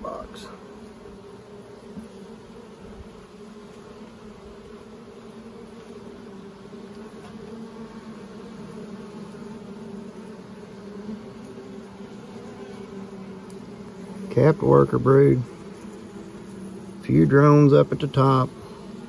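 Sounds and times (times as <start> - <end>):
honey bees buzzing: 0.0 - 19.0.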